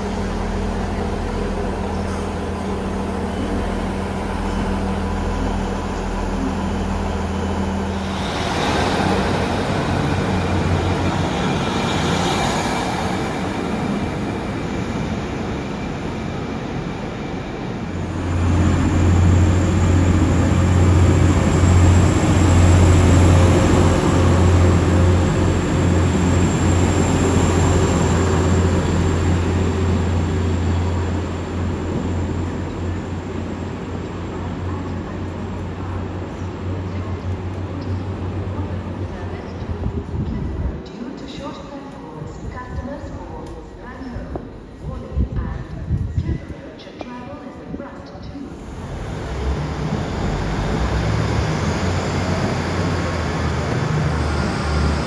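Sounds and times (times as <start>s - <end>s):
train hum: 0.0s - 46.9s, 47.8s - 55.0s.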